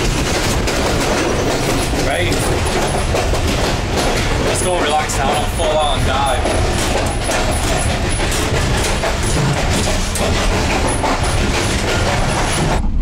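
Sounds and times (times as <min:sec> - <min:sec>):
train rumble and rush: 0:00.0 - 0:13.0
wheels clattering on rails: 0:00.0 - 0:13.0.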